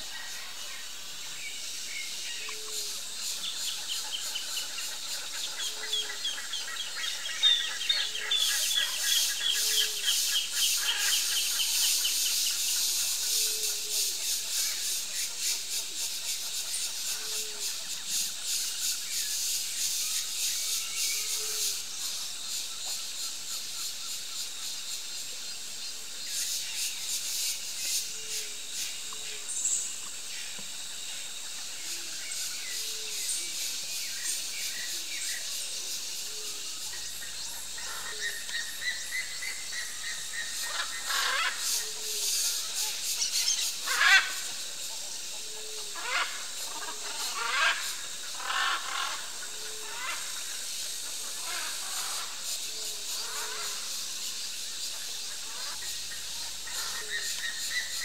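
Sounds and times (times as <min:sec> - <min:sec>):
high steady insect buzz: 0:00.0 - 0:58.0.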